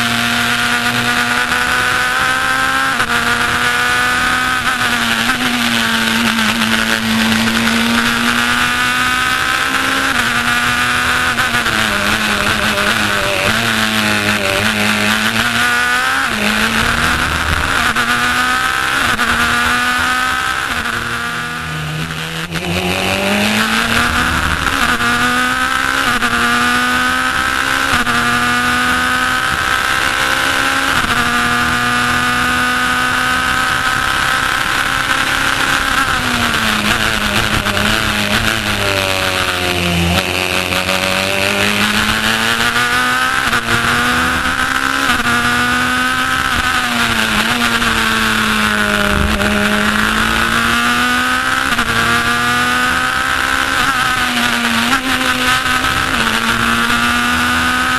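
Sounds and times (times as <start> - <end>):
race car engine at full throttle: 0.0 - 57.9.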